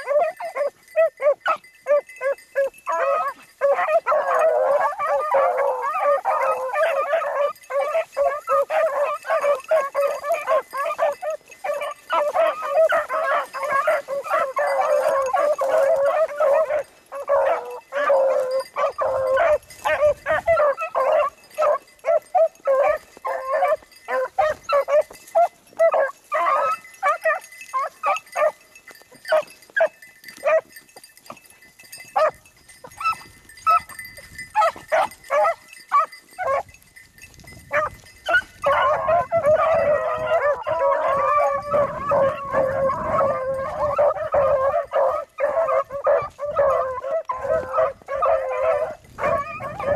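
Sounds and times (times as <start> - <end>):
dog barks and yelps: 0.0 - 28.6, 29.2 - 30.8, 32.2 - 36.7, 37.7 - 49.9
hounds baying: 0.0 - 49.9.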